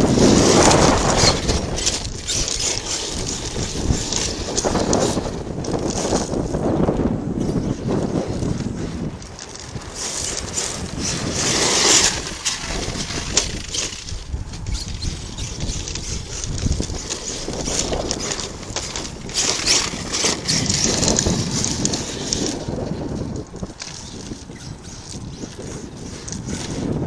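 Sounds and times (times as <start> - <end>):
electric rc truck running: 0.0 - 27.0
wind gusting on microphone: 0.0 - 27.0.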